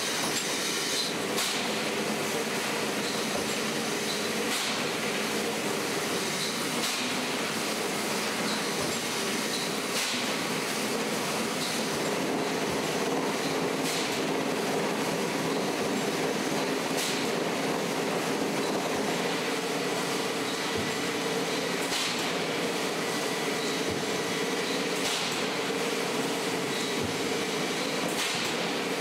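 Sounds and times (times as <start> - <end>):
industrial machinery running: 0.0 - 29.0.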